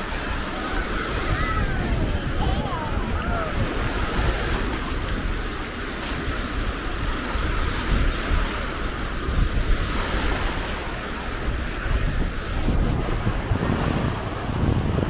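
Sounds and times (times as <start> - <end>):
waves breaking on sandy shore: 0.0 - 15.0
wind buffeting microphone: 0.0 - 15.0.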